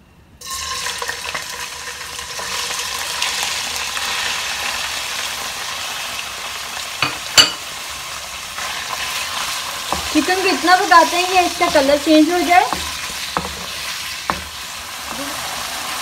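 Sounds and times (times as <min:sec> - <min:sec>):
chicken sizzling in hot oil: 0:00.4 - 0:16.0.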